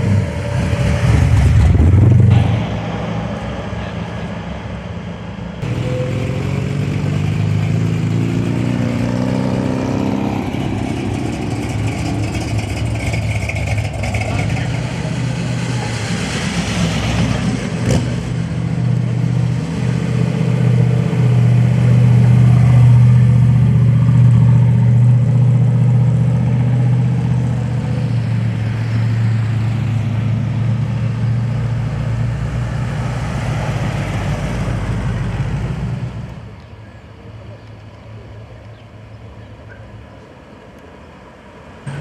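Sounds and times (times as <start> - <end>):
car engine rumbling: 0.0 - 42.0.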